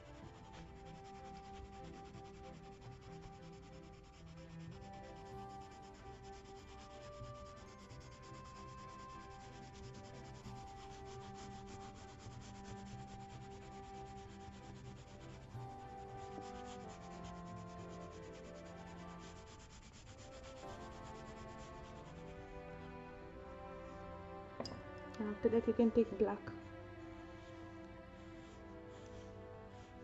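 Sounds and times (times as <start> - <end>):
colour pencil shading on paper: 0.0 - 24.3, 25.7 - 30.0
soft background music: 0.0 - 30.0.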